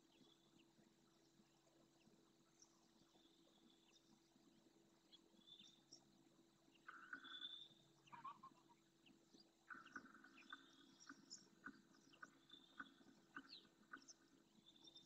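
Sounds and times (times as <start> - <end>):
distant wetland bird calls: 0.0 - 15.0.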